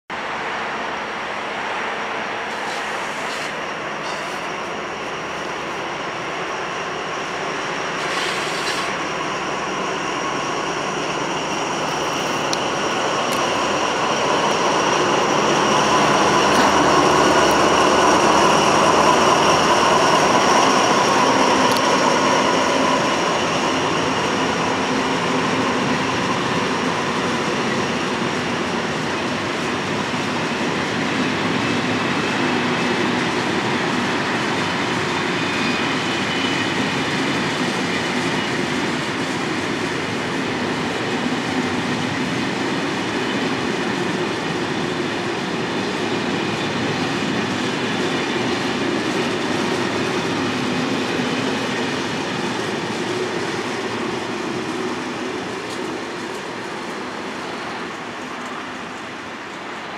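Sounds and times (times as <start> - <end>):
diesel locomotive passing: 0.1 - 59.9
train wheels on rails: 0.1 - 59.9.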